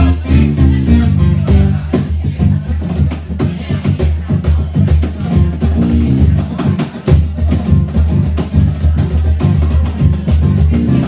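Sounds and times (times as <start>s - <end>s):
live band playing soul-blues: 0.0s - 3.5s, 4.7s - 11.0s
bass line: 0.0s - 11.0s
drum-kit hits: 0.0s - 11.0s.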